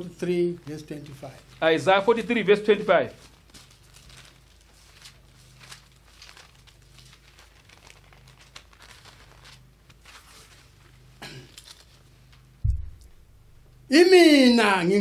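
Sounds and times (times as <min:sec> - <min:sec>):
paper pages turning: 0:00.0 - 0:13.2
low steady hum: 0:00.0 - 0:15.0.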